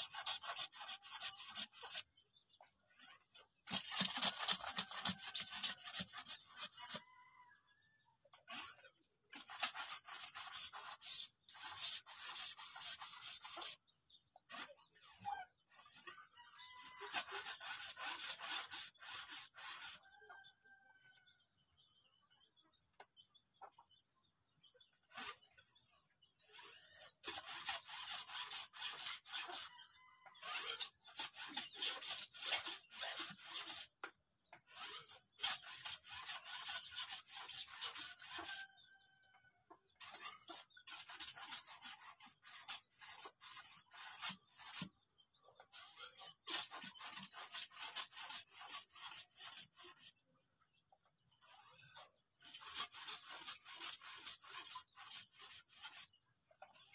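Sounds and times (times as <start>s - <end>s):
harsh scratchy rasping: 0.0s - 2.1s, 2.8s - 7.0s, 8.4s - 20.2s, 25.0s - 38.8s, 39.8s - 50.2s, 51.3s - 56.9s.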